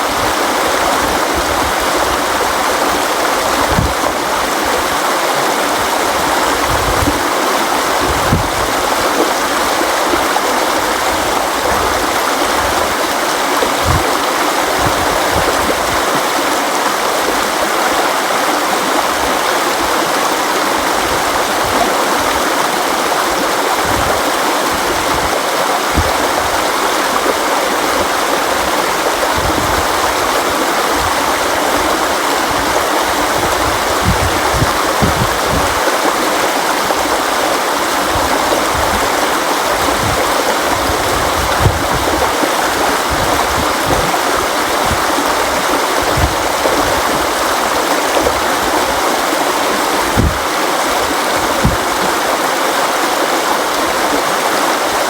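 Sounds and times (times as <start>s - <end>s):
river water flowing over rocks: 0.0s - 55.0s
low gurgling thumps: 0.1s - 4.9s, 5.8s - 17.5s, 20.8s - 52.4s.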